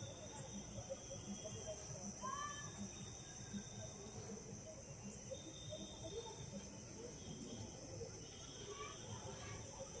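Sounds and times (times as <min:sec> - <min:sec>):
insect chirping: 0:00.0 - 0:10.0
insects trilling: 0:00.0 - 0:10.0.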